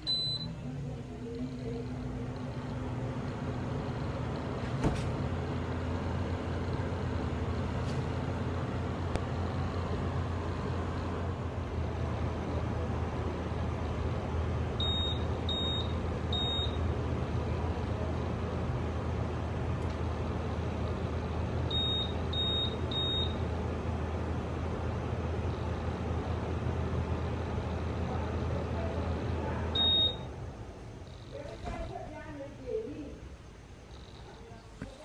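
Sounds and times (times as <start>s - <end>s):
air conditioner beeps: 0.0s - 12.2s, 13.5s - 18.0s, 20.2s - 31.7s
air conditioner humming: 0.0s - 35.0s.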